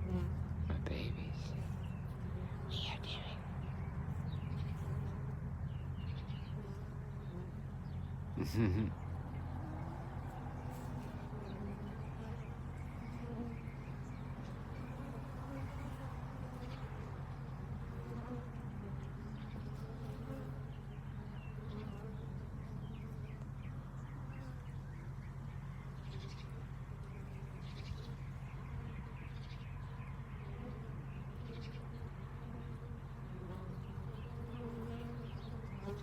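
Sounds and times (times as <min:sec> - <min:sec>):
bees buzzing: 0:00.0 - 0:36.0
birds chirping: 0:00.0 - 0:36.0.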